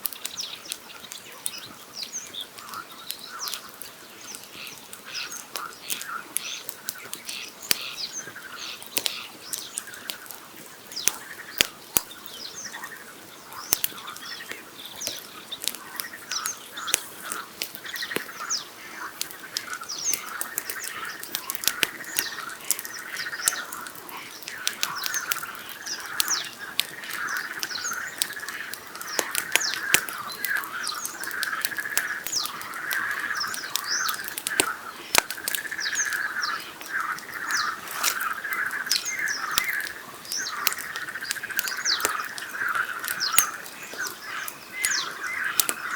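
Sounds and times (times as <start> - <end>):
campfire crackling and popping: 0.0 - 45.9
night birdsong: 0.0 - 45.9
frogs calling: 4.4 - 45.9.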